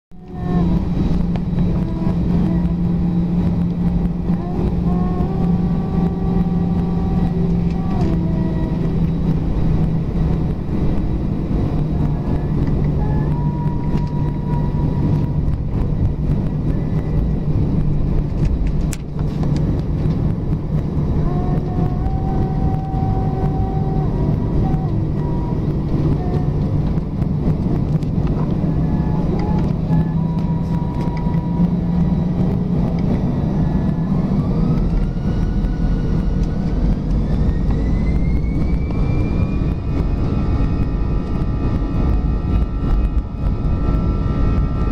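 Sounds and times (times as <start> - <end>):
jet engines droning and whining: 0.1 - 44.9.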